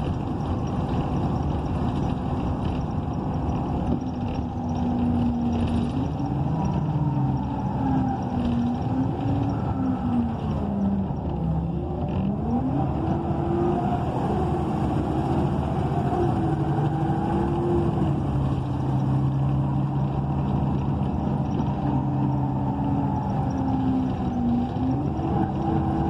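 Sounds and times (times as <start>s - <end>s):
bus engine running: 0.0s - 26.0s
pitched transmission whine: 0.0s - 26.0s
road noise: 0.0s - 26.0s.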